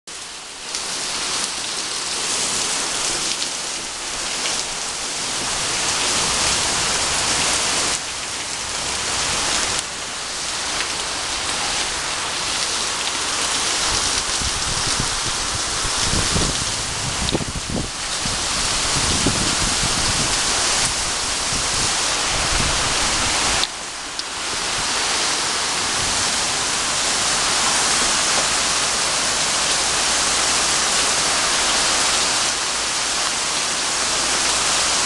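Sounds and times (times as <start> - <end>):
heavy rain pouring: 0.1 - 35.0.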